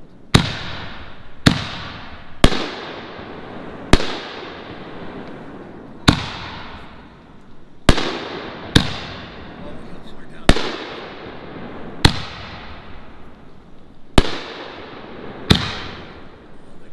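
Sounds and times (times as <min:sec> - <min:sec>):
rolling echo: 0:00.0 - 0:16.9
firework shell bangs: 0:00.3 - 0:16.6.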